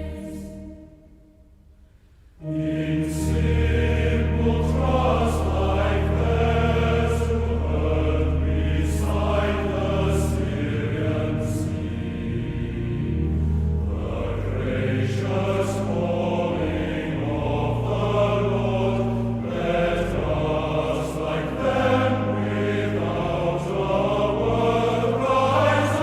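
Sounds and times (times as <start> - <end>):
choir singing slow sacred song: 0.0 - 26.0
sustained accompaniment: 0.0 - 26.0.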